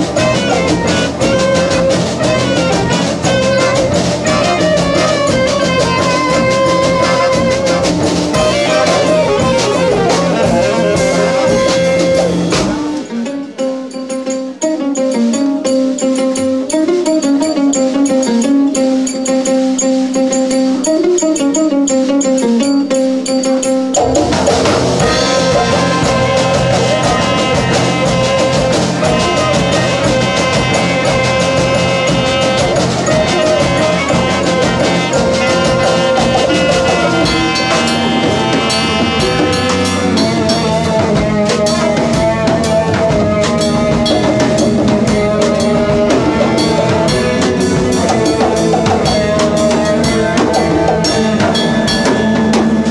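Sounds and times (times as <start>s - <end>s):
live band playing: 0.0s - 52.9s
plucked guitar notes: 0.0s - 52.9s.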